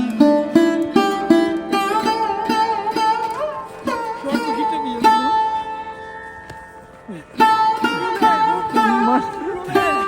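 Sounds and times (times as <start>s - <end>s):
plucked string instrument music: 0.0s - 10.0s.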